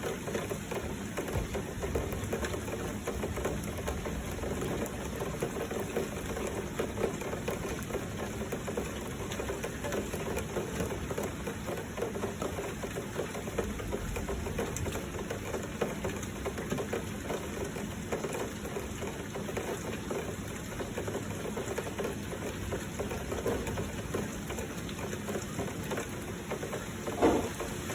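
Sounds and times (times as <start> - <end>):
flowing water: 0.0 - 27.9
heavy rain falling: 0.0 - 27.9.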